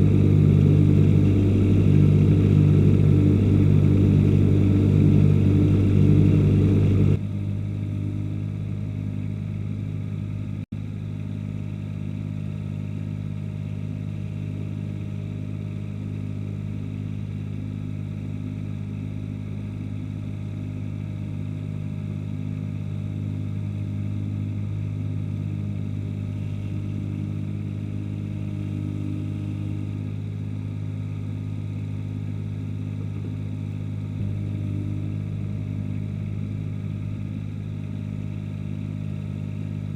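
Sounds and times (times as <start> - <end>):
ride-on mower engine running: 0.0 - 39.9.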